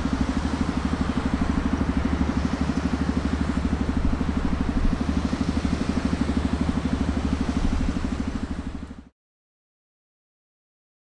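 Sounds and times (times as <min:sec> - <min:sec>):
train low rumble: 0:00.0 - 0:09.1.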